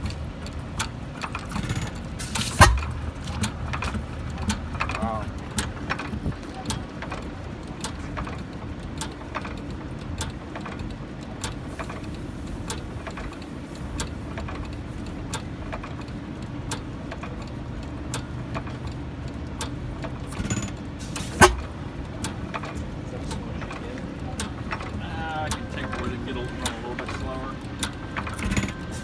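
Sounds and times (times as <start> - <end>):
engine clicks: 0.0 - 29.0
stationary engine rumbling: 0.0 - 29.0.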